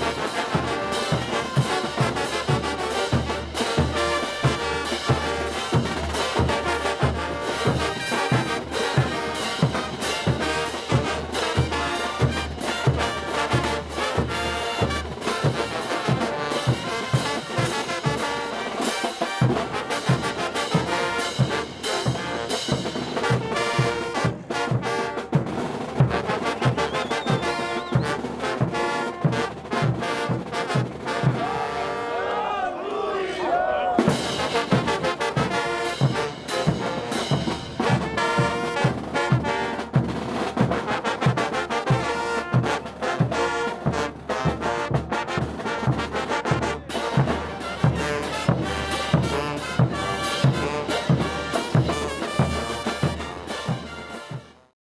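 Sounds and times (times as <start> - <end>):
steady drum beat: 0.0 - 31.9, 33.9 - 54.6
trumpets and trombones: 0.0 - 54.8.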